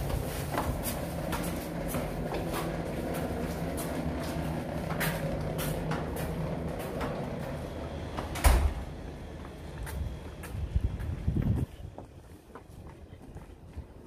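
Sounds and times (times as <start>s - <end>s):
footsteps on paving: 0.0s - 7.8s, 9.3s - 14.0s.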